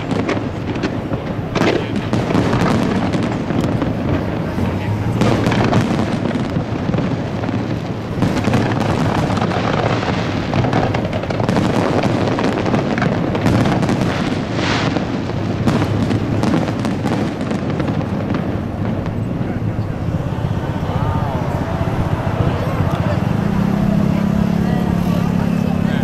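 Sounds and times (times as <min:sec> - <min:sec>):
firework shells bursting: 0:00.0 - 0:23.9
firework crackle: 0:00.0 - 0:26.0.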